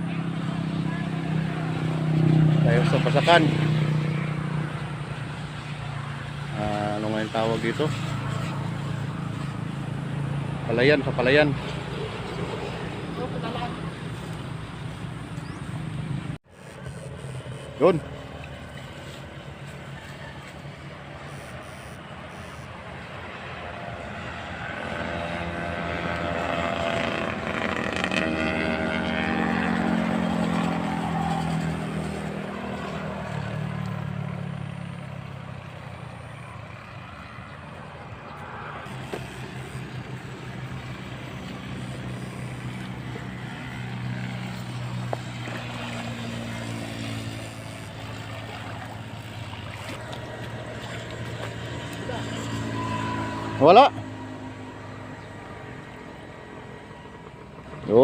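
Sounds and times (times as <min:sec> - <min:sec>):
steady engine hum: 0:00.0 - 0:58.0
vehicle engine passing by: 0:00.0 - 0:58.0.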